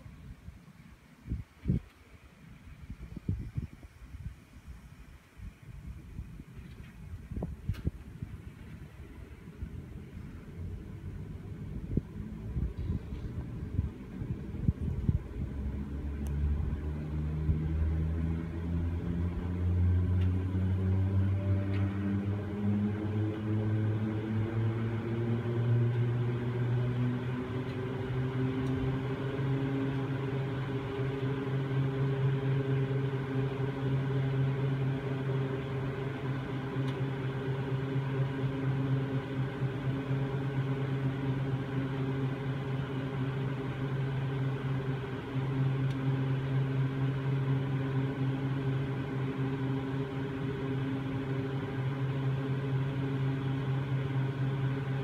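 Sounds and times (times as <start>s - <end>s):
ropeway machinery humming: 0.0s - 55.0s.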